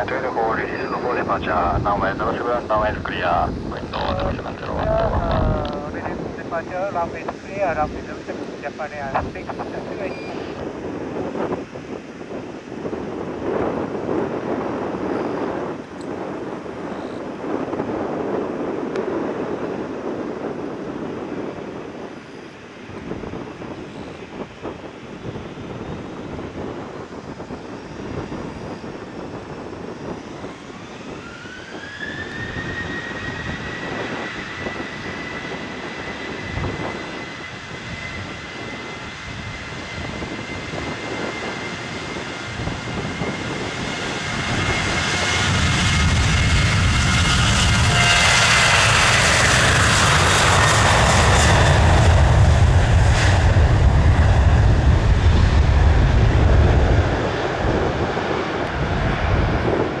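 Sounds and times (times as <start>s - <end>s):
jet airliner rumble passing: 0.0s - 60.0s
jet engines whining: 0.0s - 60.0s.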